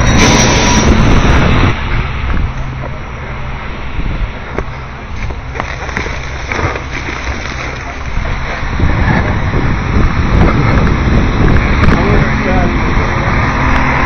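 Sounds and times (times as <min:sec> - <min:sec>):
garbage truck engine hum: 0:00.0 - 0:14.0
rough rumble: 0:00.0 - 0:14.0.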